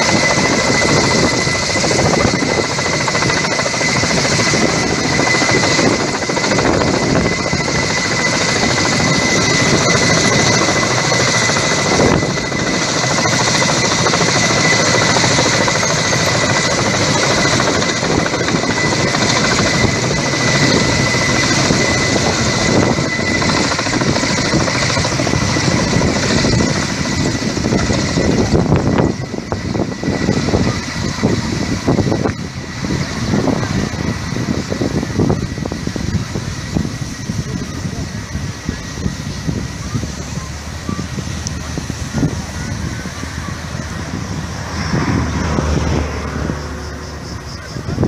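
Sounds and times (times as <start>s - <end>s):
helicopter rotor and turbine: 0.0s - 48.0s.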